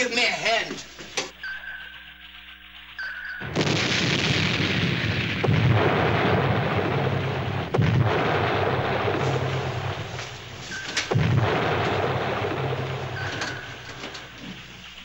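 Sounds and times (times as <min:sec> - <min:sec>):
depth charges exploding: 0:03.0 - 0:15.0.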